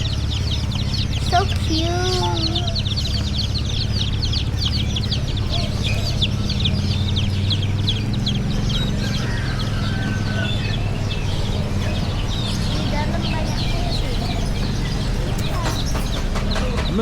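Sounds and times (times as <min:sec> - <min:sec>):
baby chicks peeping: 0:00.0 - 0:17.0.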